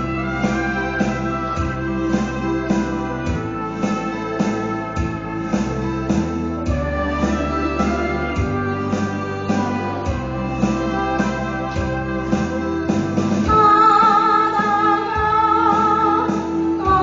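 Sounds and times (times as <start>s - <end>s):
instrumental music with guitar: 0.0s - 17.0s.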